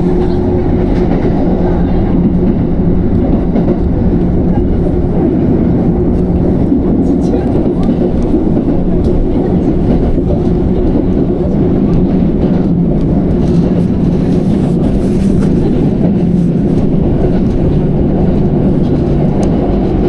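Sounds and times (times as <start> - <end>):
train rumbling inside carriage: 0.0 - 20.0.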